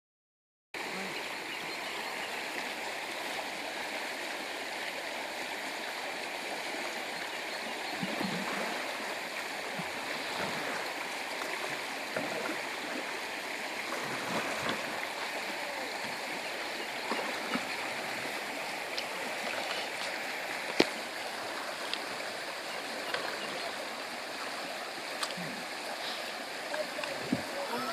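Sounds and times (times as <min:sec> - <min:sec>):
river water rushing: 0:00.8 - 0:27.9.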